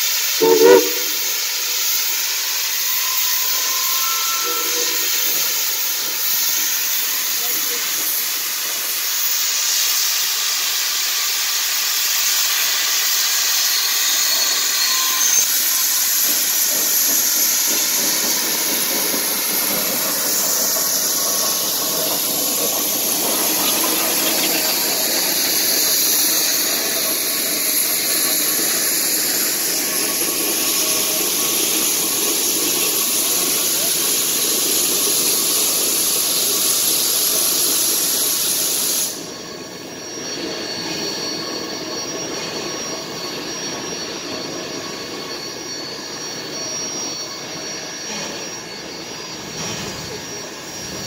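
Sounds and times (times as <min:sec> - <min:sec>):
steam hissing from locomotives: 0:00.0 - 0:51.0.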